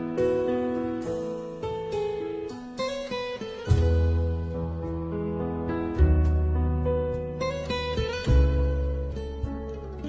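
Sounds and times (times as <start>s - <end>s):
plucked guitar notes: 0.0s - 10.0s.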